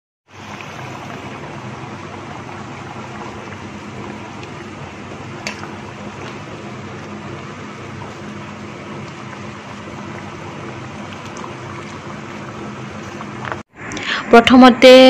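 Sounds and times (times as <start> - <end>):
curry boiling and bubbling: 0.2 - 13.9.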